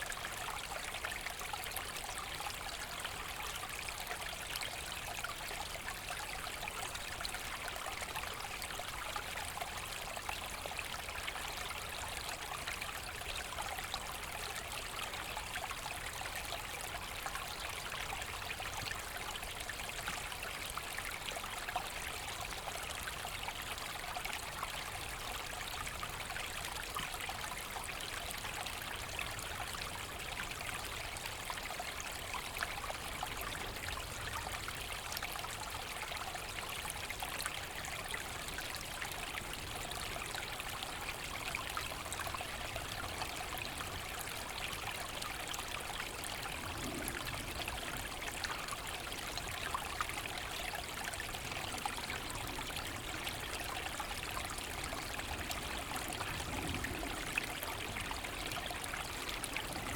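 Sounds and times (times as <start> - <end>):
brook burbling over stones: 0.0 - 59.9.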